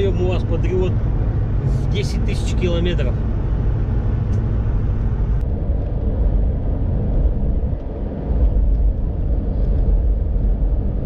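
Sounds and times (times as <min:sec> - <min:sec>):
vehicle cabin rumble: 0:00.0 - 0:11.0.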